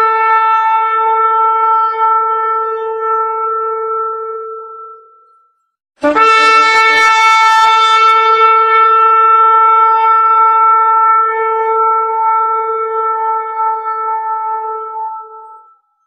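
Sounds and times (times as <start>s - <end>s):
long horn blast: 0.0s - 5.2s, 6.0s - 15.8s.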